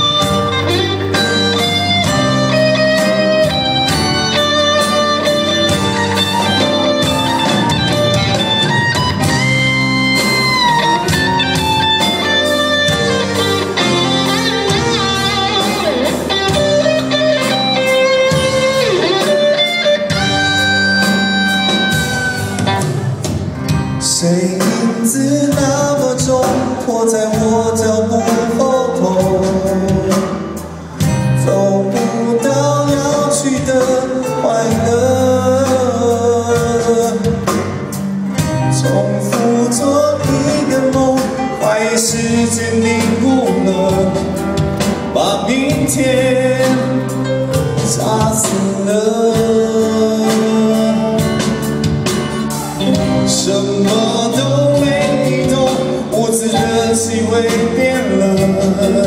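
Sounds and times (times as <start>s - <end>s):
bass guitar: 0.0s - 59.0s
drums: 0.0s - 59.0s
electric guitars: 0.0s - 59.0s
keyboard: 0.0s - 59.0s
sustained lead melody: 0.0s - 59.0s.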